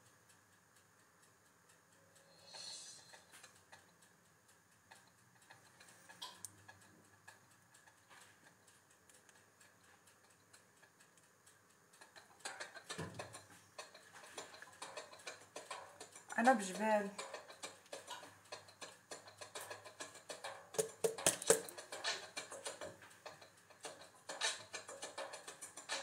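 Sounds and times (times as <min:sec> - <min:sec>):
faint scattered clicks: 0:00.0 - 0:26.0.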